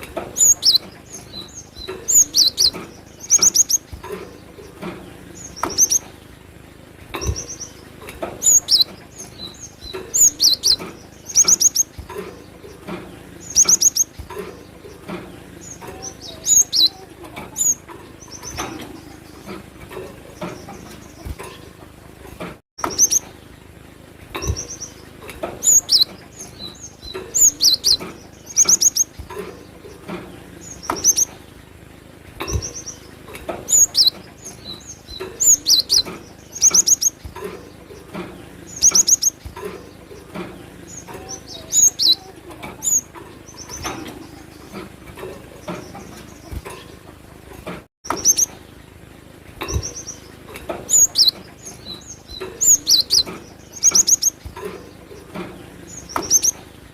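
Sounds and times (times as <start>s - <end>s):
bird chirping high-pitched: 0.0s - 6.1s, 7.2s - 19.6s, 22.8s - 23.3s, 24.4s - 30.0s, 30.6s - 31.4s, 32.4s - 45.0s, 48.1s - 48.6s, 49.6s - 56.6s.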